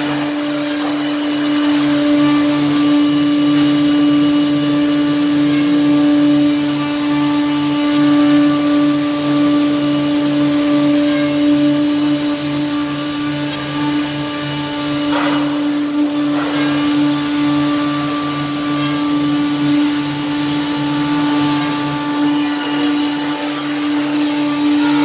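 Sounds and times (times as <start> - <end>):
saw machine humming and throbbing: 0.0 - 25.0.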